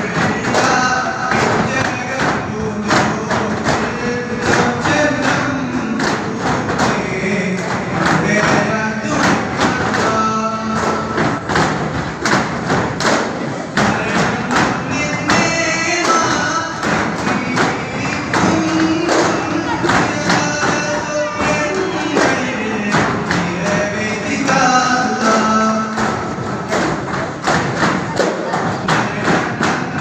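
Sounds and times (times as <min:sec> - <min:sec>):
people singing: 0:00.0 - 0:11.8, 0:12.7 - 0:30.0
frame drums beating: 0:00.0 - 0:30.0.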